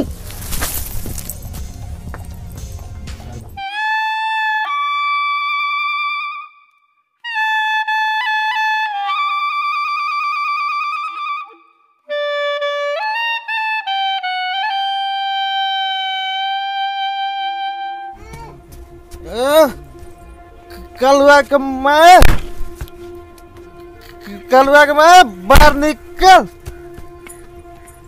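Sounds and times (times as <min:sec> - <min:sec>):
reedy wind instrument melody: 0:00.0 - 0:28.0.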